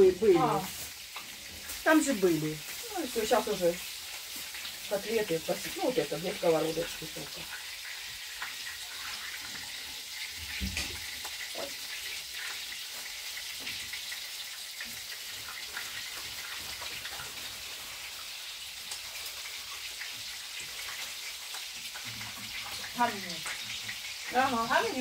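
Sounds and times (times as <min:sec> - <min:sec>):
cutlets sizzling in pans: 0:00.0 - 0:25.0.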